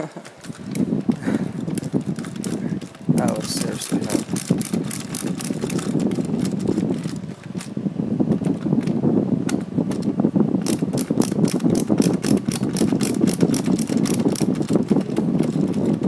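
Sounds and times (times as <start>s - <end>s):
screwdriver clicking: 0.2s - 7.7s, 8.3s - 16.0s.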